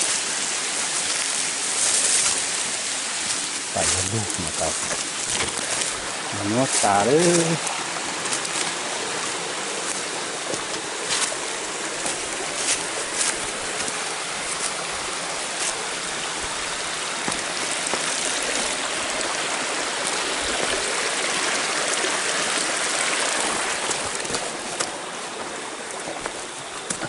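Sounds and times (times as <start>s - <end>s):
stream running over rocks: 0.0s - 27.0s.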